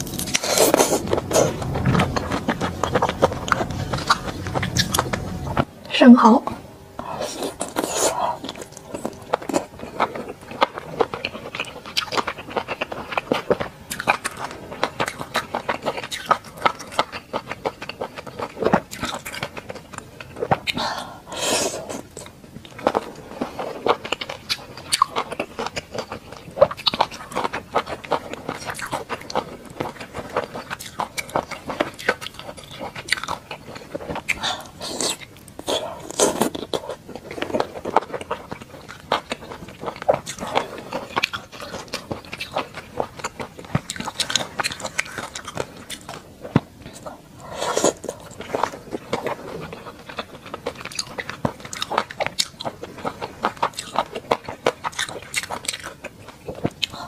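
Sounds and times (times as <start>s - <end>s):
close biting and chewing: 0.0s - 5.3s, 7.2s - 57.0s.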